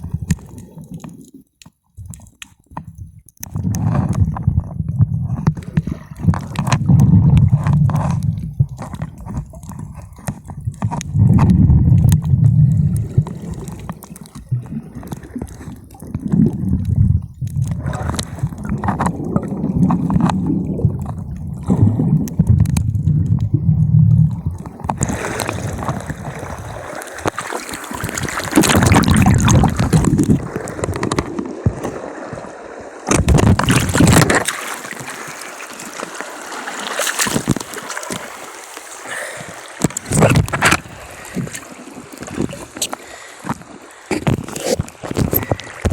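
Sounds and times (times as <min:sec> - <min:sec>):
muffled underwater sloshing: 0:03.0 - 0:45.9.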